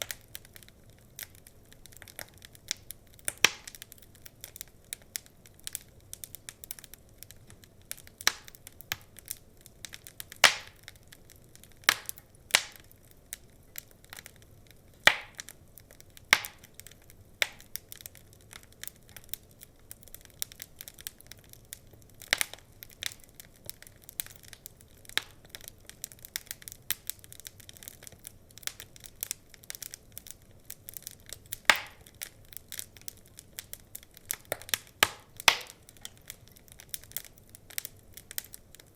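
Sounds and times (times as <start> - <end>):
logs crackling in a fireplace: 0.0 - 38.9.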